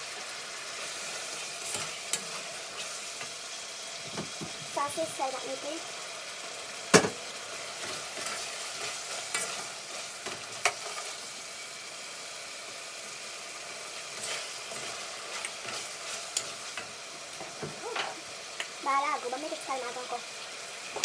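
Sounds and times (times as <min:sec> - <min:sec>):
sauce sizzling in a pot: 0:00.0 - 0:21.0.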